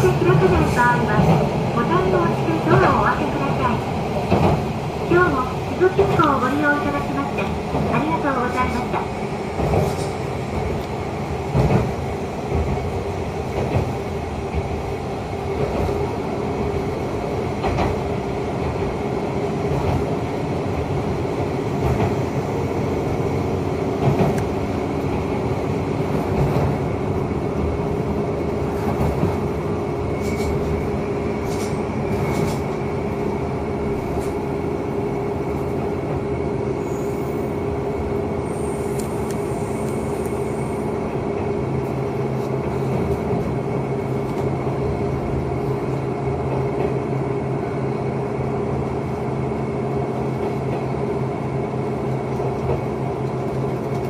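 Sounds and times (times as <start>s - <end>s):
train engine hum: 0.0s - 54.0s
train rolling noise: 0.0s - 54.0s.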